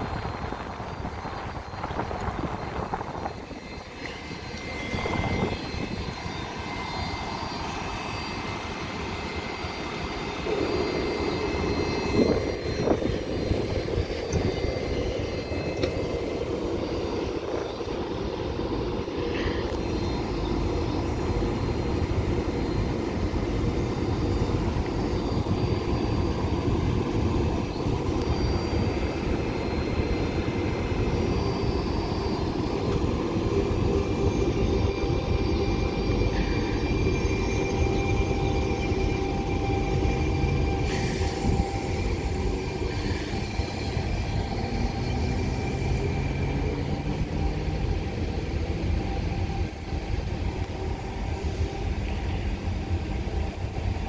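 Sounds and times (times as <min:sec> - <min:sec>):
train hum with high whine: 0:00.0 - 0:54.0.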